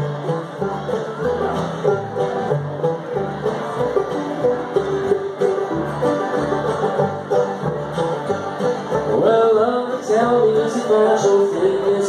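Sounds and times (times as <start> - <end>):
banjo picking: 0.0 - 12.0
bluegrass band playing: 0.0 - 12.0
upright bass notes: 0.0 - 12.0.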